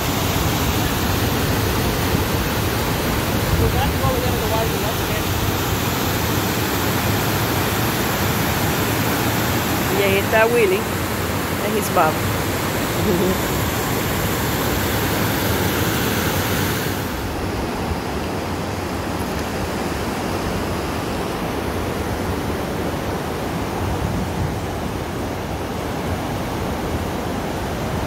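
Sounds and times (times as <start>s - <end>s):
river water rushing over rocks: 0.0s - 28.0s.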